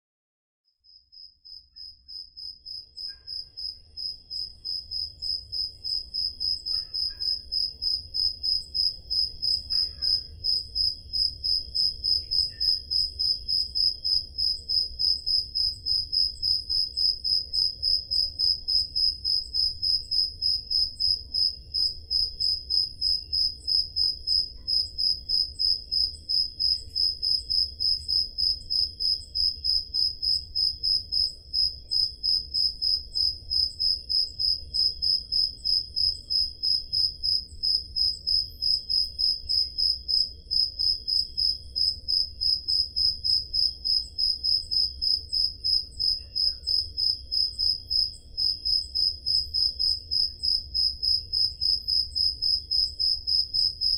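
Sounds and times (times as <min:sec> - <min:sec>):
loud cricket steady chirp: 0:00.8 - 0:53.9
crickets chirping: 0:00.9 - 0:53.9.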